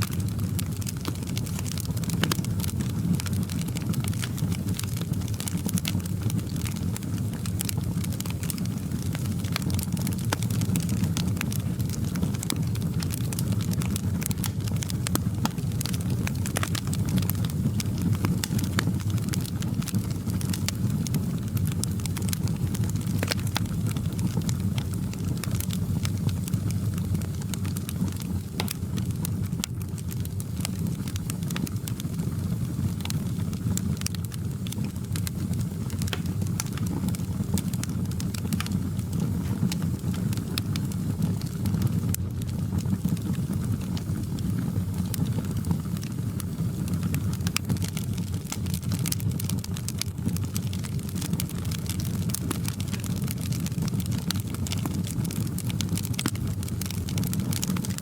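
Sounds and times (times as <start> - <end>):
fire crackling and popping: 0.0 - 58.0
low rumble of burning logs: 0.0 - 58.0.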